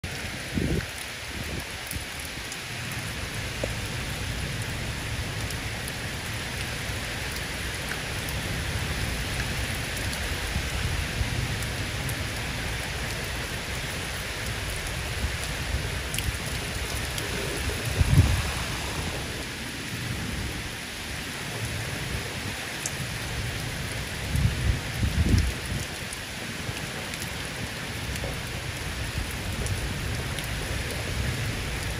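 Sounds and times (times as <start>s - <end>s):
heavy rain falling: 0.0s - 31.9s
low rumble of wind gusts: 0.1s - 31.9s.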